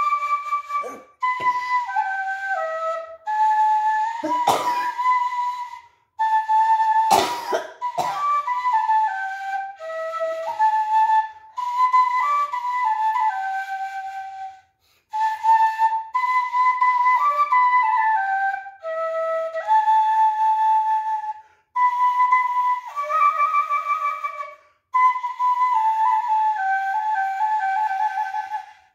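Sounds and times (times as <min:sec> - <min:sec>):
bamboo flute melody: 0:00.0 - 0:28.9.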